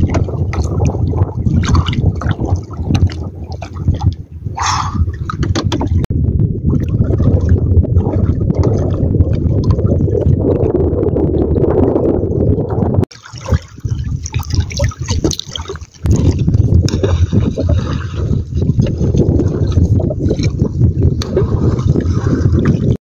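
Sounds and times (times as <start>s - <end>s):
water sloshing against boat hull: 0.0s - 10.8s, 13.0s - 23.0s.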